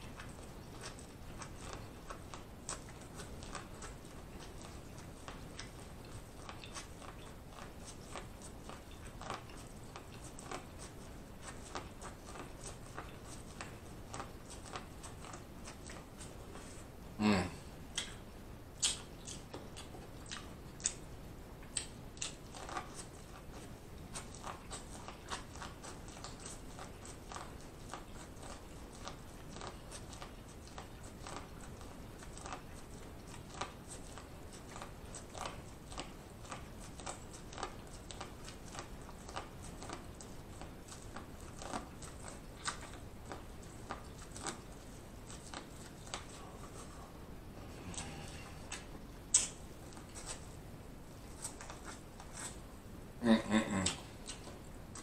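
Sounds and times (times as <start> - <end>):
person chewing corn on the cob: 0.0 - 17.0, 17.9 - 52.8, 53.6 - 55.0.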